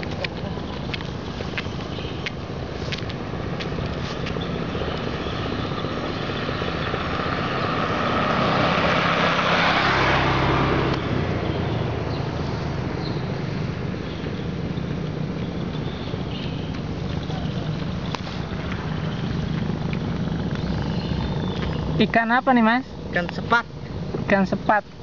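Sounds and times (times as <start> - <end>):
low engine hum: 0.0 - 25.0
vehicle passing: 0.0 - 25.0.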